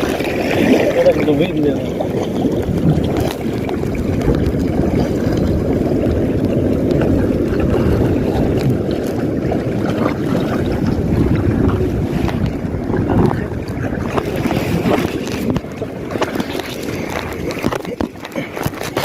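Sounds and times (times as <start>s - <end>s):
sea water washing: 0.0s - 19.0s
wind noise on microphone: 0.0s - 19.0s.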